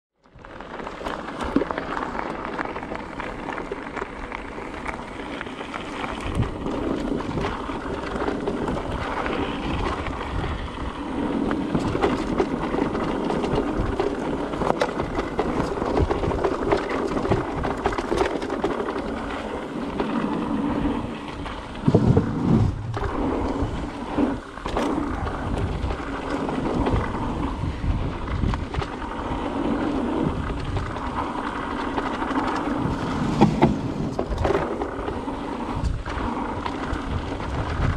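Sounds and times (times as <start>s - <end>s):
bike tyres rumbling on dirt: 0.3s - 37.9s
bike rattling and knocking: 0.4s - 37.9s.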